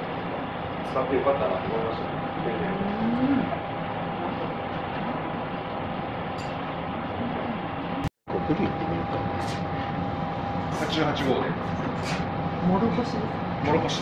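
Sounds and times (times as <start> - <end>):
thin constant hum: 0.0 - 14.0.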